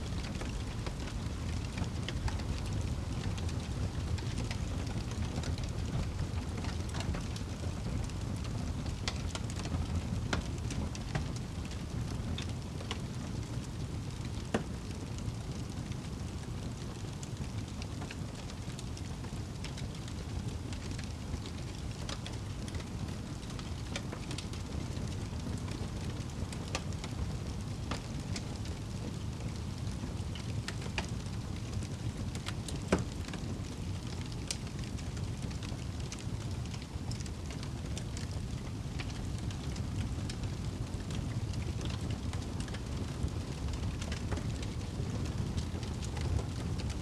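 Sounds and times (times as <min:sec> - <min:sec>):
campfire crackling and popping: 0:00.1 - 0:47.0.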